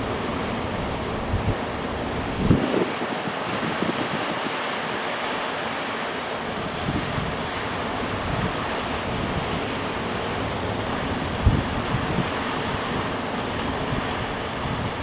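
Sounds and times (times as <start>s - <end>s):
wind buffeting microphone: 0.0s - 5.0s, 6.5s - 15.0s
waves roaring: 0.0s - 15.0s.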